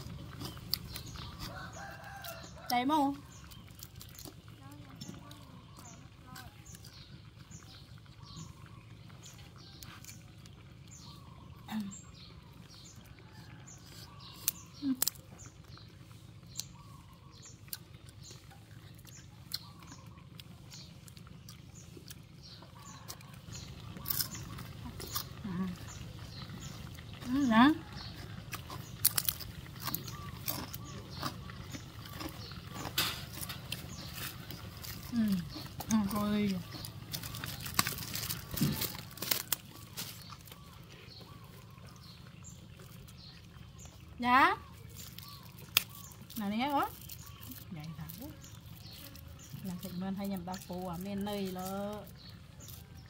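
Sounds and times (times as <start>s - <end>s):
low background hum: 0.0s - 53.0s
monkeys chewing: 0.0s - 53.0s
monkeys crunching food: 0.0s - 53.0s.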